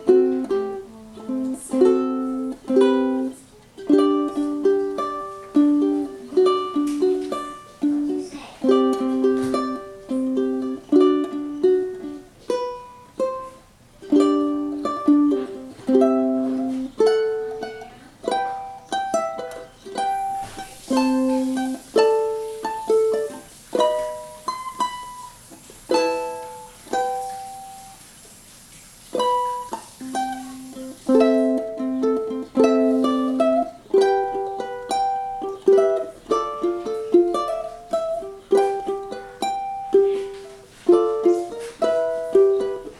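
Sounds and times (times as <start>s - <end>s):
ukulele playing: 0.0s - 42.9s.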